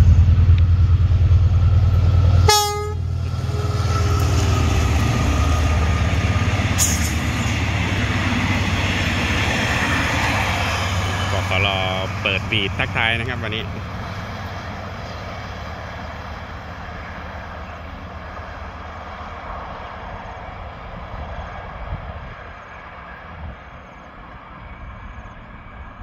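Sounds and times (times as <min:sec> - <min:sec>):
diesel train engine rumble: 0:00.0 - 0:26.0
train wheels on rails: 0:00.0 - 0:26.0.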